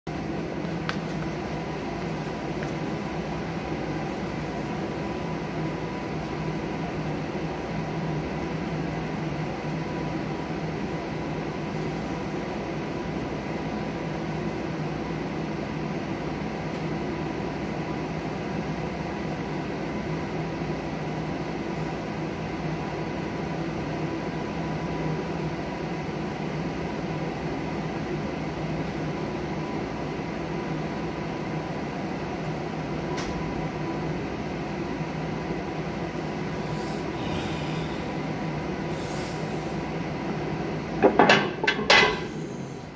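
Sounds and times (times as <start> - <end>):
ventilation hum: 0.1 - 42.9.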